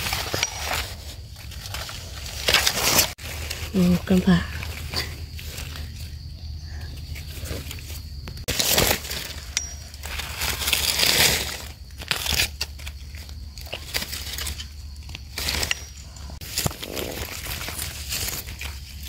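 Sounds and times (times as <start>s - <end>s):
dry leaves rustling and crackling: 0.0s - 19.0s.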